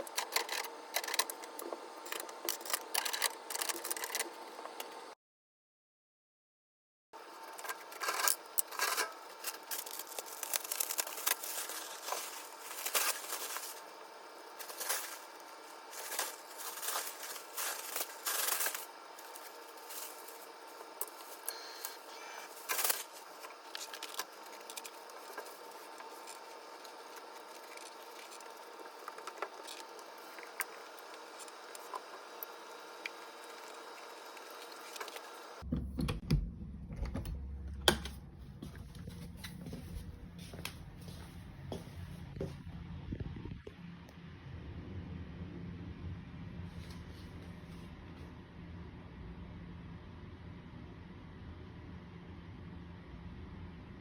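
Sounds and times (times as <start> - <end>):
low steady hum: 7.2 - 54.0.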